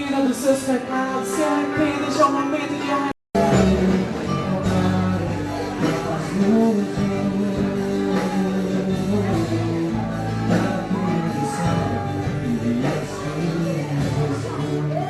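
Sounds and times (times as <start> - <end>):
guitar: 0.0 - 15.0
person singing: 0.0 - 15.0
worship band music: 0.0 - 15.0.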